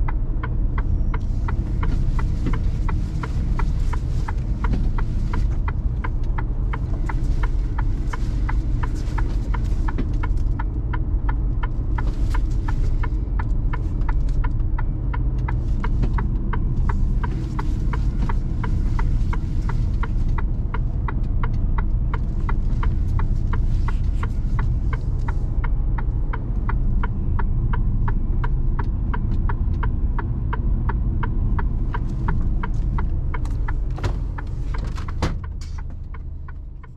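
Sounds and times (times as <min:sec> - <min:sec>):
diesel truck engine running: 0:00.0 - 0:36.9
regular ticking: 0:00.0 - 0:36.9.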